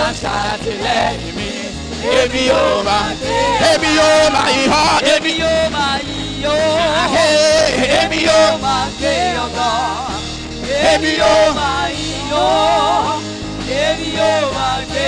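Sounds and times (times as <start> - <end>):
band accompaniment: 0.0 - 15.0
person singing through microphone: 0.0 - 15.0.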